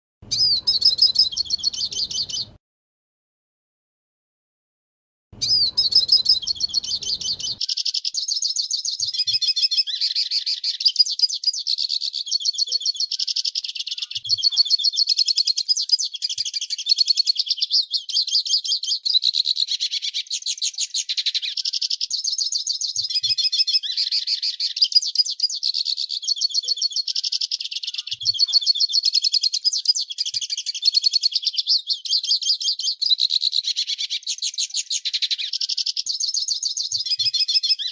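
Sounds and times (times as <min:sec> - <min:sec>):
bird twittering song: 0:00.2 - 0:02.6, 0:05.4 - 0:37.9.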